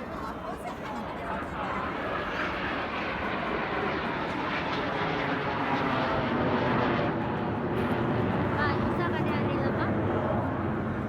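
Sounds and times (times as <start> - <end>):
aircraft engine rushing: 0.8 - 11.0.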